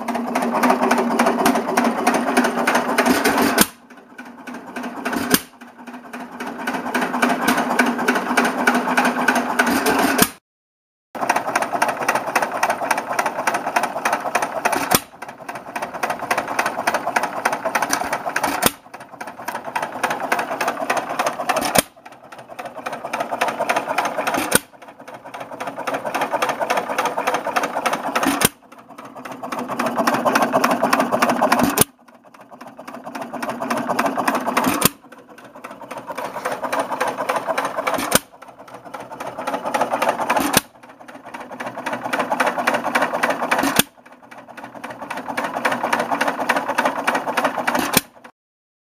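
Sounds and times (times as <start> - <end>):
stationary engine clattering: 0.0 - 10.4, 11.2 - 48.3.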